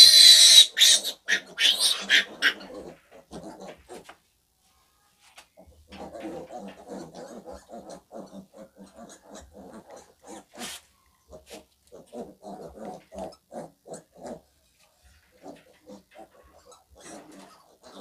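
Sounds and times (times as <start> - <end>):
piglets grunting: 0.0 - 4.0, 5.6 - 10.7, 11.3 - 14.5, 15.3 - 18.0.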